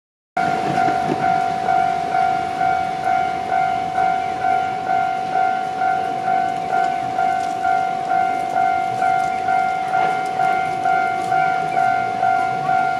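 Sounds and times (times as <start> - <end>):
level-crossing warning bell ringing: 0.4 - 12.9.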